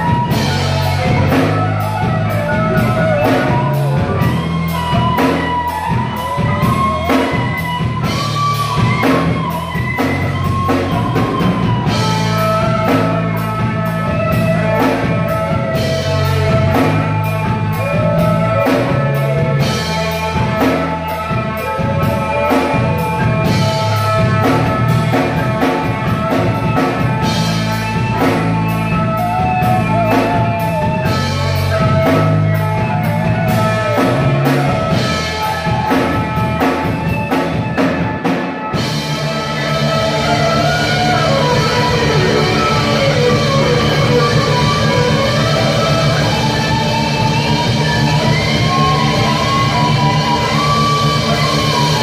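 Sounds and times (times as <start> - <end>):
amplified electric guitars: 0.0 - 52.0
drum kit beat: 0.0 - 52.0.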